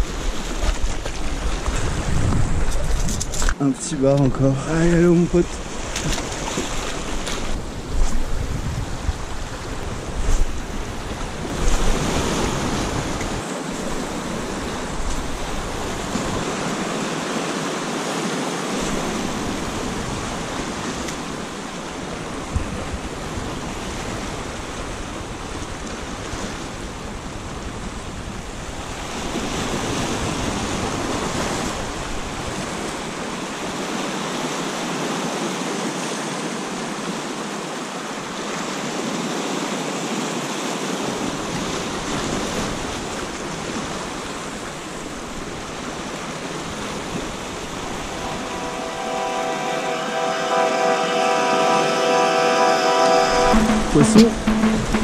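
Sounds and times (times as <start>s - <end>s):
surf washing over rocks: 0.0s - 55.0s.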